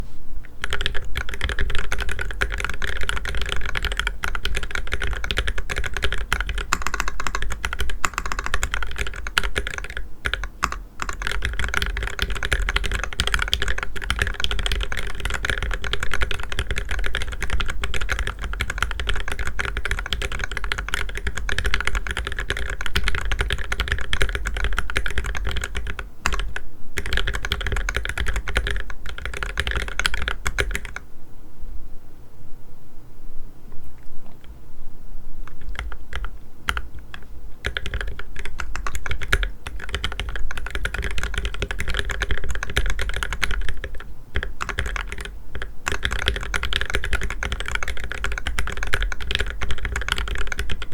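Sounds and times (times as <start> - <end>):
mechanical keyboard typing: 0.6 - 31.0, 35.5 - 50.9.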